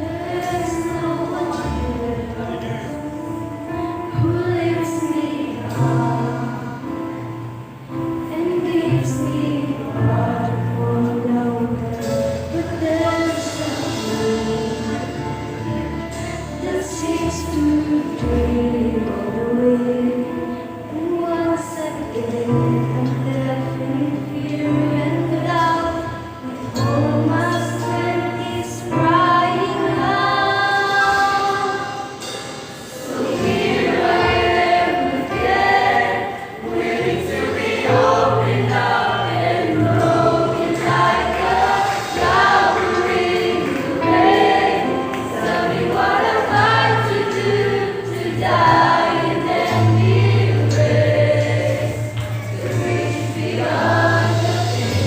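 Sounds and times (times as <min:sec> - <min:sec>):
youth choir singing gospel: 0:00.0 - 0:55.0.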